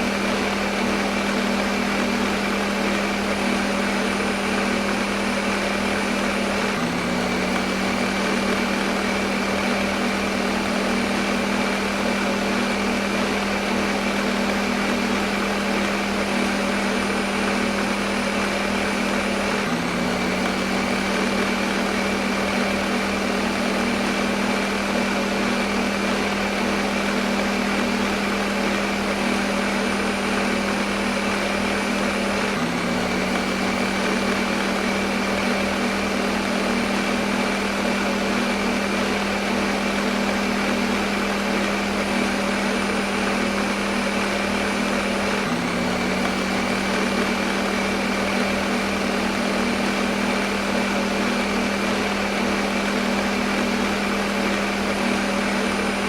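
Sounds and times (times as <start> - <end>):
blender motor whirring: 0.0 - 56.0.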